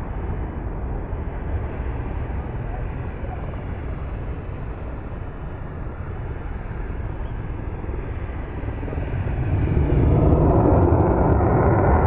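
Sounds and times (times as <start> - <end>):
jet engines rushing and rumbling: 0.0 - 12.0.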